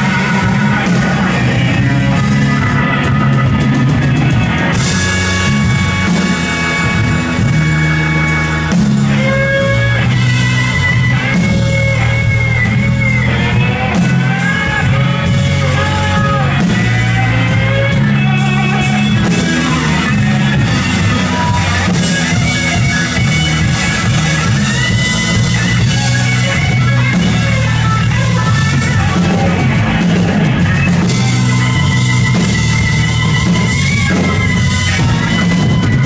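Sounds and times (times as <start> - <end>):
bass guitar: 0.0 - 36.0
drum kit: 0.0 - 36.0
electric guitar lead with bent notes: 0.0 - 36.0
keyboard: 0.0 - 36.0.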